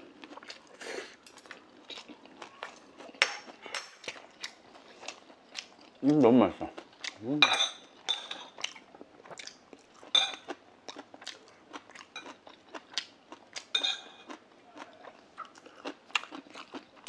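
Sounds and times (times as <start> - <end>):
person chewing with wet smacks: 0.0 - 0.8, 1.6 - 7.3, 8.4 - 17.0.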